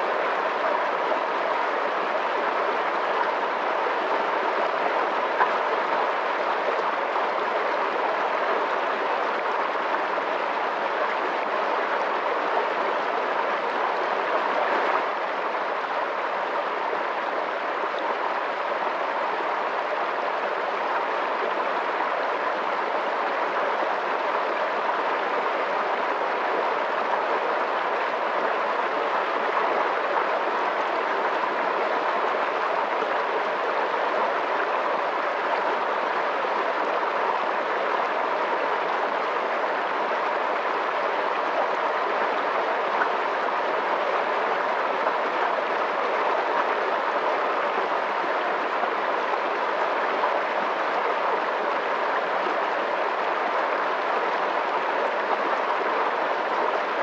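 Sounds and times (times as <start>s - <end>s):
fast-flowing water rushing: 0.0s - 57.0s.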